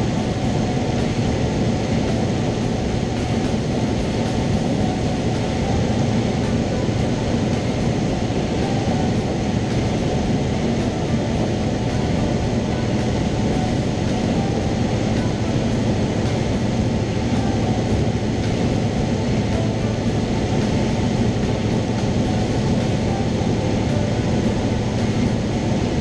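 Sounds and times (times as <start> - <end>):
airplane engine drone in cabin: 0.0 - 26.0.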